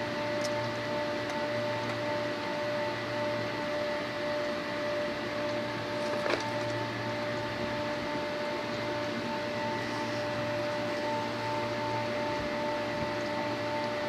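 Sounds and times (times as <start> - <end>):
machinery hum: 0.0 - 14.0.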